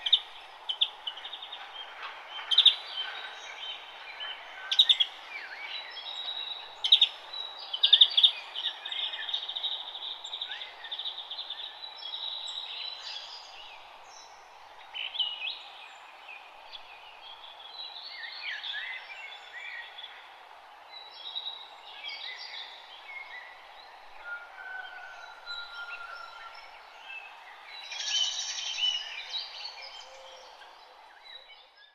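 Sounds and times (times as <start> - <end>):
songbirds chirping and singing: 0.0 - 31.9.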